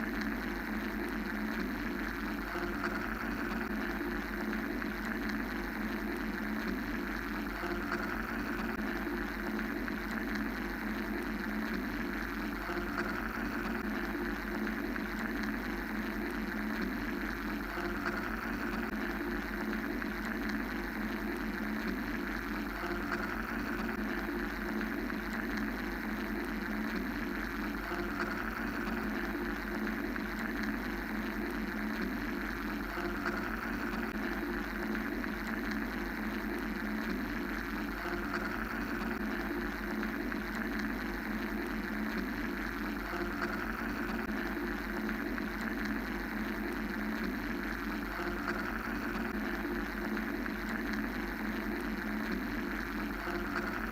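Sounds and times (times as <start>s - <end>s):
machine-like white-noise drone: 0.0s - 53.9s.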